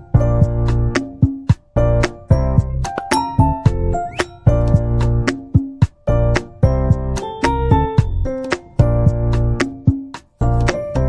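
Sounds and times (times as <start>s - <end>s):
upbeat music with bass and percussion: 0.0s - 11.0s.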